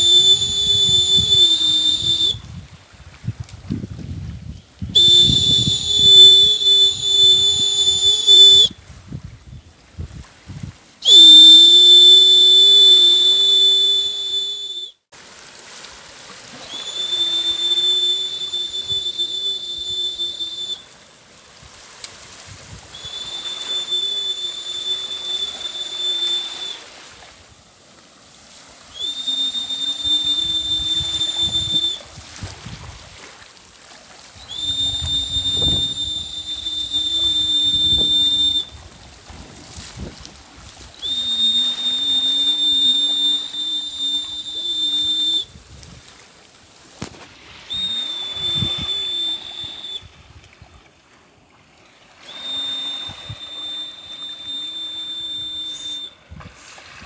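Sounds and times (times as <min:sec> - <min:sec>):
long whistle-like blown tone: 0:00.0 - 0:02.8, 0:04.5 - 0:08.8, 0:11.0 - 0:15.1, 0:16.5 - 0:21.0, 0:22.7 - 0:27.3, 0:28.4 - 0:33.3, 0:34.3 - 0:50.8, 0:52.1 - 0:57.0.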